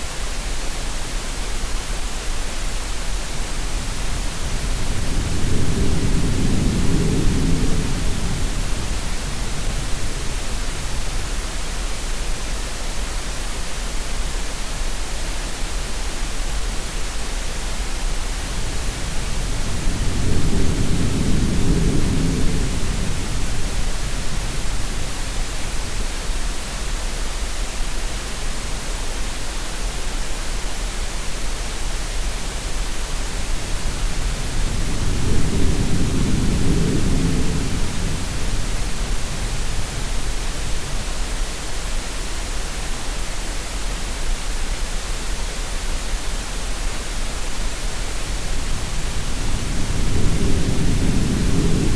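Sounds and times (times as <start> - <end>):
steady noise hiss: 0.0 - 51.9.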